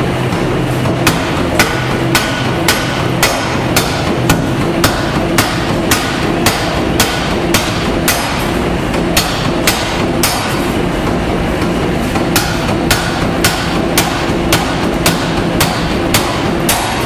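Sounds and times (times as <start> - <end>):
steady mechanical rumble: 0.0 - 17.0.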